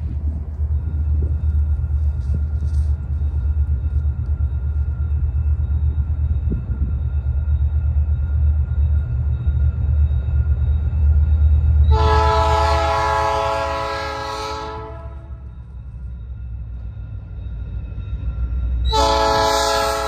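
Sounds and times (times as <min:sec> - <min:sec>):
diesel locomotive rumble: 0:00.0 - 0:20.0.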